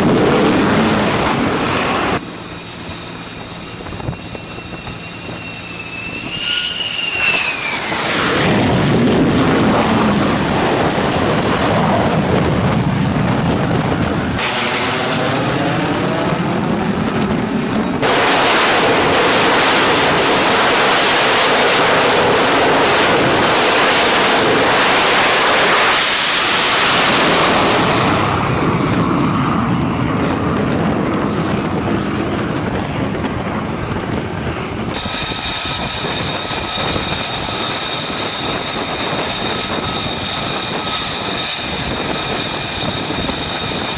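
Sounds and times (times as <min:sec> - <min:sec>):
high-pitched turbine whine: 0:00.0 - 0:43.9
jet engine and wind rush: 0:00.0 - 0:43.9
jet passing: 0:00.0 - 0:43.9.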